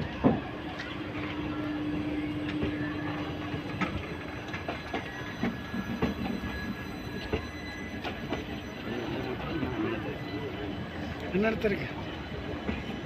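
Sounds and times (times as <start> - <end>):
train running noise: 0.0 - 13.0.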